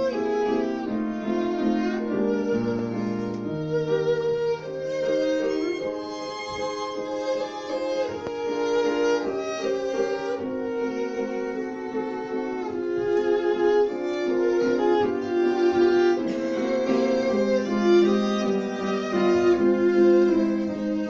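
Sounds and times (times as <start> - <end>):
chamber music piano trio: 0.0 - 21.0
violin bowed melody: 0.0 - 21.0.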